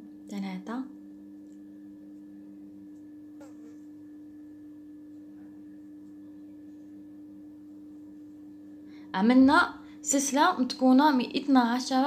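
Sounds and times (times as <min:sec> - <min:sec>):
steady pure tone hum: 0:00.0 - 0:12.0.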